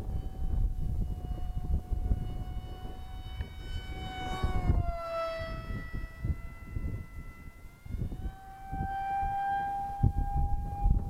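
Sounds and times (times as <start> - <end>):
model jet whine flying past: 0.0 - 11.0
wind buffeting microphone: 0.0 - 11.0.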